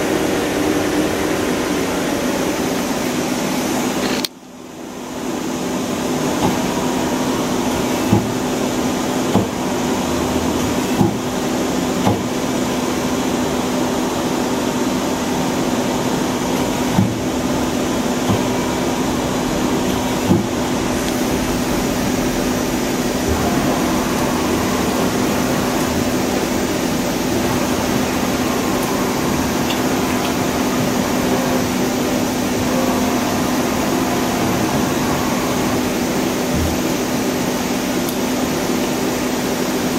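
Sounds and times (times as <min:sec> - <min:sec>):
machine humming with steady tone: 0:00.0 - 0:39.9.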